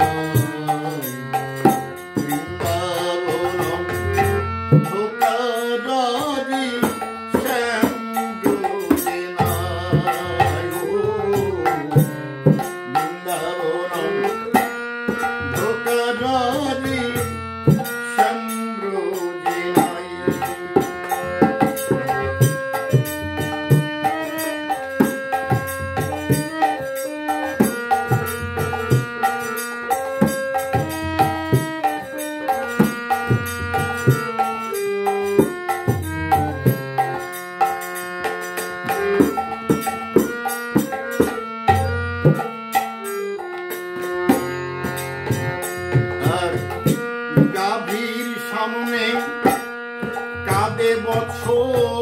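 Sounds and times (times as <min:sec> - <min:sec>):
harmonium: 0:00.0 - 0:52.0.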